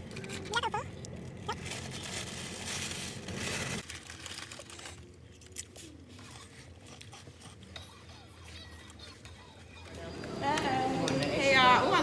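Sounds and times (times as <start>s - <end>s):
crinkling and rustling handling noise: 0.0s - 10.0s.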